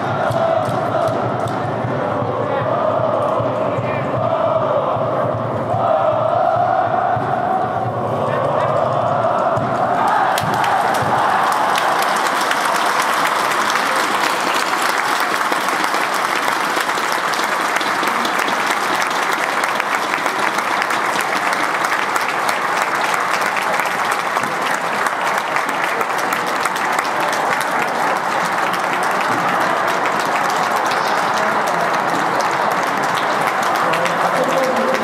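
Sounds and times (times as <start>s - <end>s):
stadium crowd applauding: 0.0s - 4.8s, 5.7s - 35.0s.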